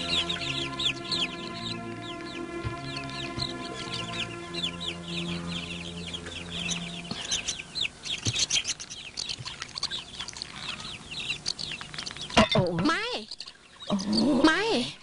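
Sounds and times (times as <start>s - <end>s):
chickens peeping and clucking: 0.0s - 14.8s
soft background music: 0.0s - 14.9s.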